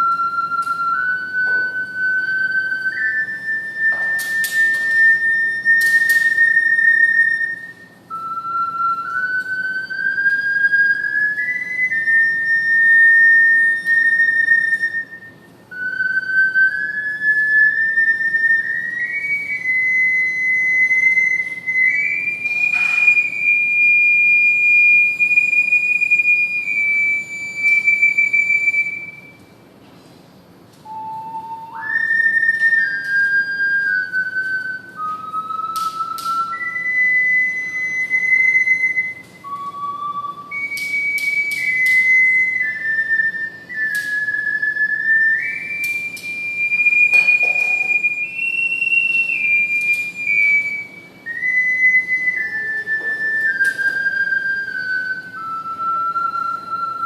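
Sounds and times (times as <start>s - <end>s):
ocarina slow melody: 0.0s - 57.0s.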